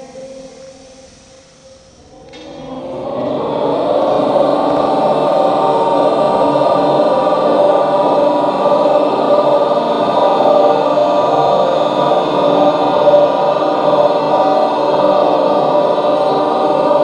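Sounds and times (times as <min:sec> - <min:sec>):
group chanting in unison: 0:02.1 - 0:17.0.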